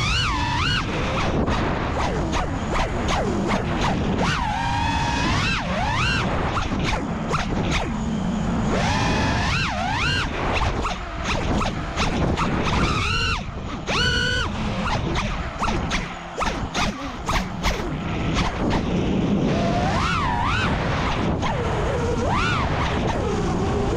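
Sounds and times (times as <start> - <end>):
crackling wind noise: 0.0 - 23.9
quadcopter motors whining: 0.0 - 23.9.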